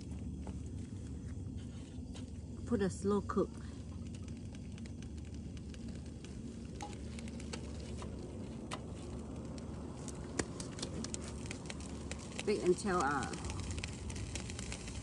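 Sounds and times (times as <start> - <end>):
fish crackling and popping: 0.0 - 15.0
low gas burner background: 0.0 - 15.0.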